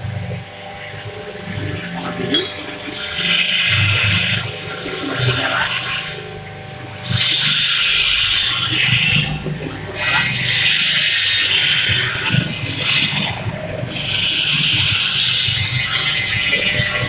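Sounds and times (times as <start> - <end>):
mixer motor humming: 0.0 - 17.0.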